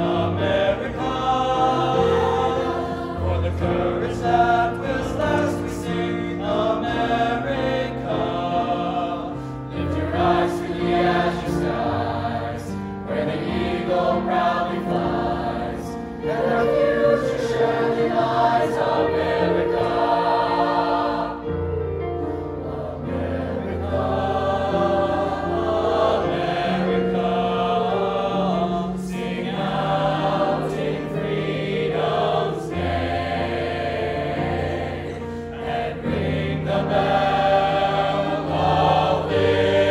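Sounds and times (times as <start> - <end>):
mixed-voice choir singing: 0.0 - 39.9.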